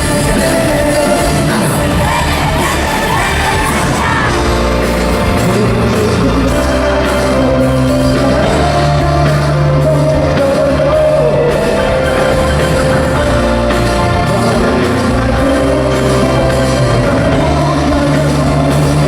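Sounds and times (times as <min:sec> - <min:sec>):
audience yelling: 0:00.0 - 0:19.0
backing band playing: 0:00.0 - 0:19.0
person singing: 0:00.0 - 0:19.0.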